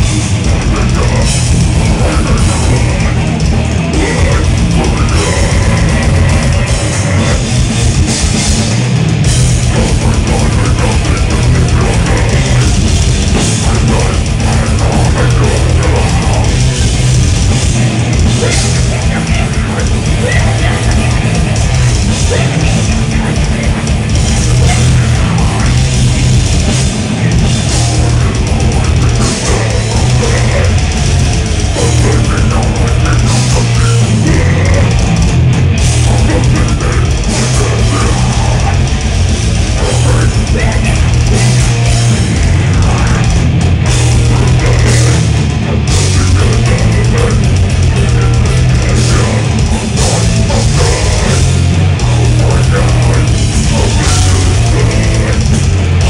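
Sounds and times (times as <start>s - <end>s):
distorted electric guitars: 0.0s - 56.0s
fast dense drumming: 0.0s - 56.0s.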